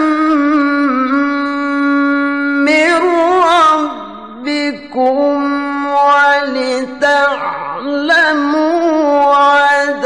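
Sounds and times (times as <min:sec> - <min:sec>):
man chanting melodically: 0:00.1 - 0:10.0.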